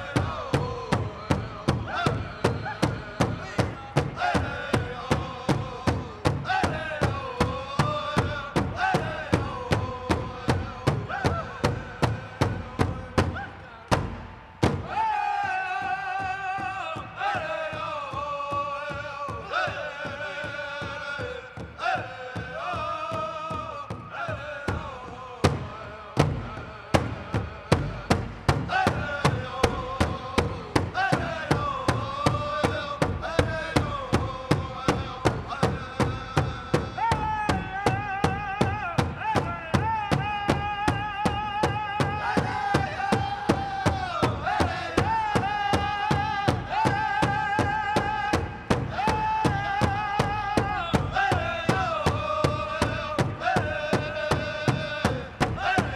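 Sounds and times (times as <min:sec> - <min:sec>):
big drum steady beat: 0:00.0 - 0:55.9
group singing high voices: 0:00.0 - 0:55.9.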